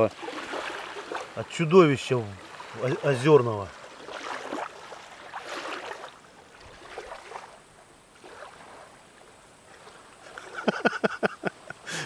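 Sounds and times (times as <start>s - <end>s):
small waves washing onto shore: 0.0s - 12.0s.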